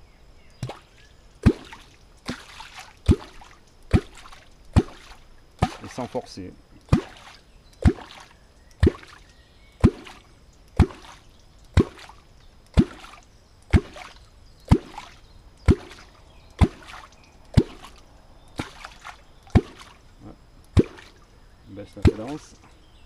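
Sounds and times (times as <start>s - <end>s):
low clonk in water: 0.6s - 9.2s, 9.8s - 20.0s, 20.7s - 21.2s, 21.9s - 22.7s.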